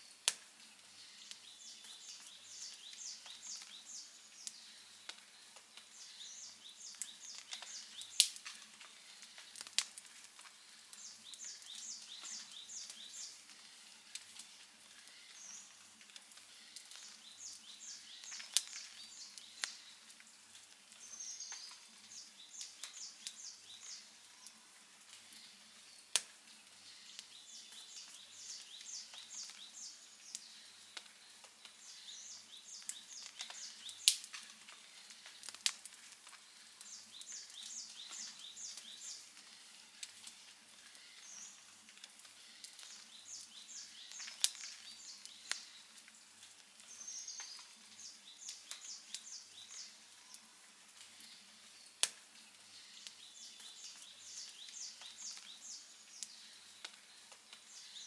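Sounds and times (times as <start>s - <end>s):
campfire wood crackling and popping: 0.0s - 58.0s.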